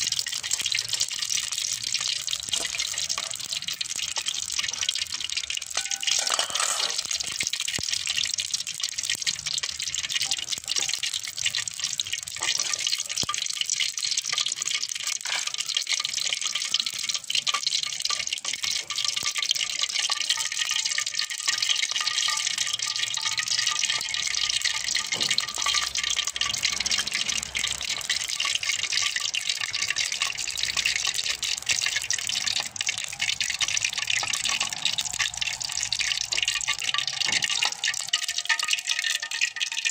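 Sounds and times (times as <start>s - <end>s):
batter frying in oil: 0.0s - 39.9s.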